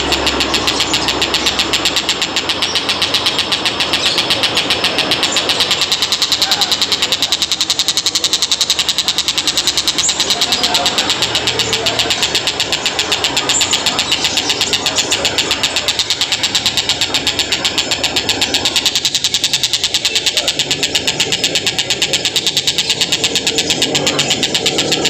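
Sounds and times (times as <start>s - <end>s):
kingfisher calling: 0.0s - 25.0s.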